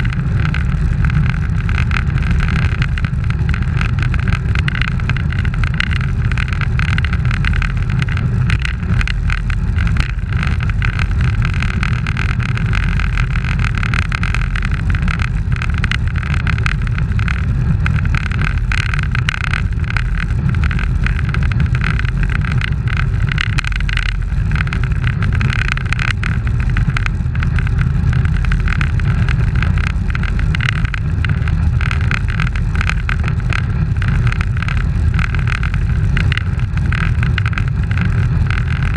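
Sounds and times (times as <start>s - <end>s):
tyres rumbling on asphalt: 0.0s - 38.9s.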